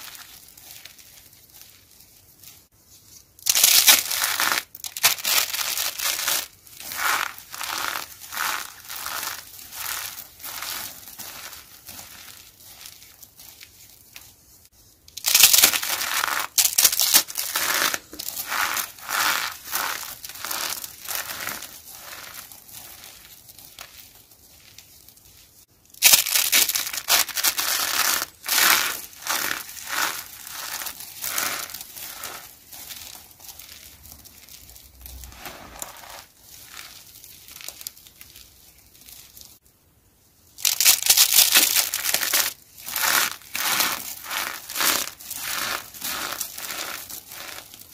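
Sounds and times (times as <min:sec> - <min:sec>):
soap chips crunching by hand: 0:03.4 - 0:13.7, 0:15.2 - 0:24.2, 0:26.0 - 0:38.4, 0:40.6 - 0:47.9.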